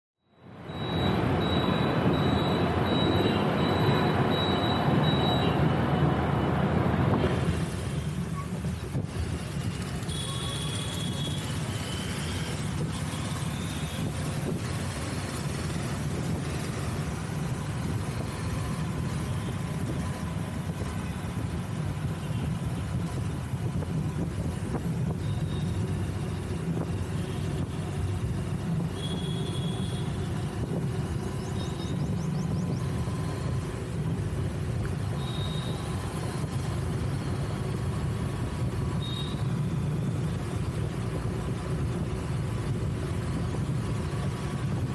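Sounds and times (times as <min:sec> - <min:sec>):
engine and tyre rumble: 0:00.2 - 0:44.9.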